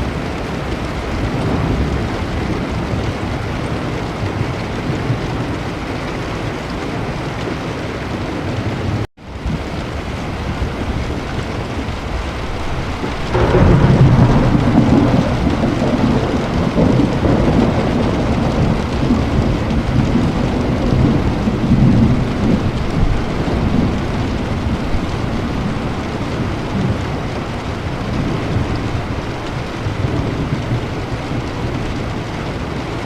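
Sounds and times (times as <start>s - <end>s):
rolling thunder: 0.0s - 5.8s, 8.7s - 33.0s
steady rain: 0.0s - 33.0s.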